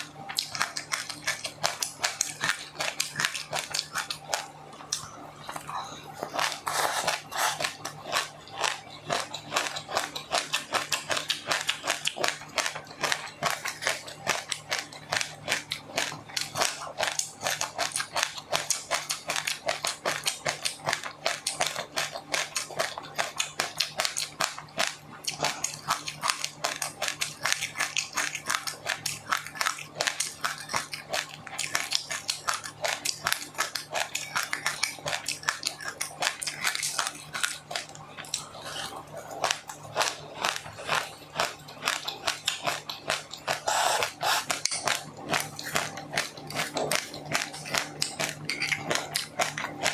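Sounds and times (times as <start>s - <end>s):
chewing crunchy food: 0.0s - 49.9s
faint steady hum: 0.0s - 49.9s.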